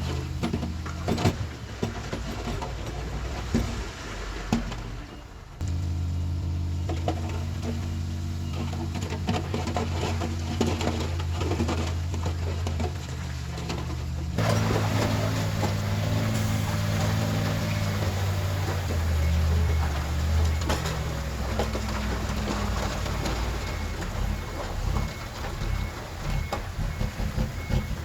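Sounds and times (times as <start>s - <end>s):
diesel engine running: 0.0s - 4.0s, 5.0s - 28.0s.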